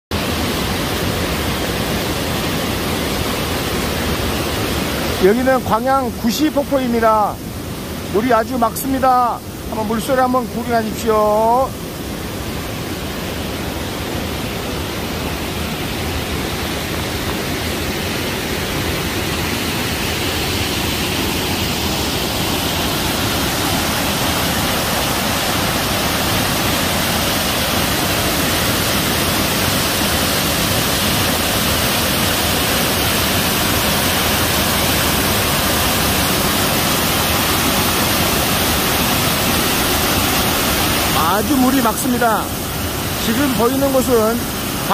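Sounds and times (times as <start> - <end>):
waterfall rushing over rocks: 0.1 - 44.9.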